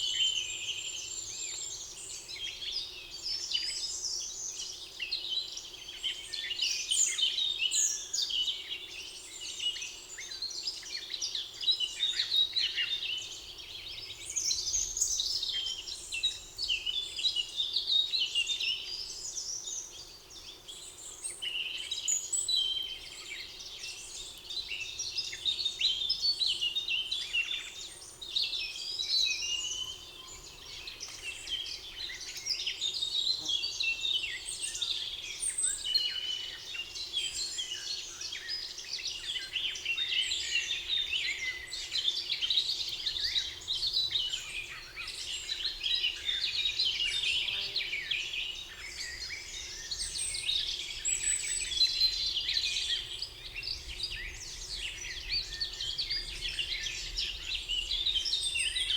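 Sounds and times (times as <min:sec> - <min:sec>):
songbirds chorus: 0:00.0 - 0:58.9.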